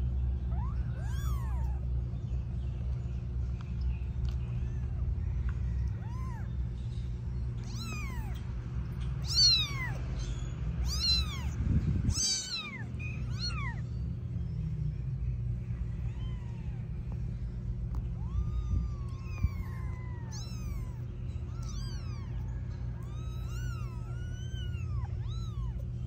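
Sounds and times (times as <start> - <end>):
low hum: 0.0 - 26.0
kittens mewing: 0.4 - 2.1, 4.3 - 14.6, 15.5 - 26.0.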